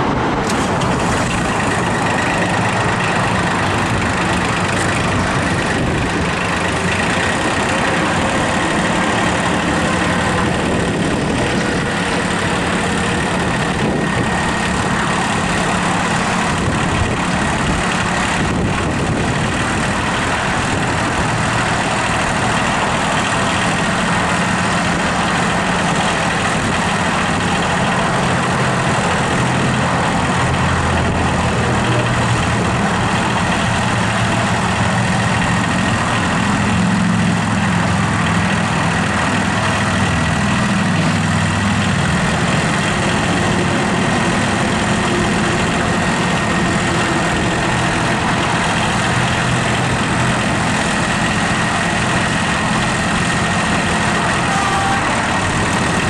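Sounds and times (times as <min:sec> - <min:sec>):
steady high whine: 0:00.0 - 0:56.0
tractor diesel engine running: 0:00.0 - 0:56.0.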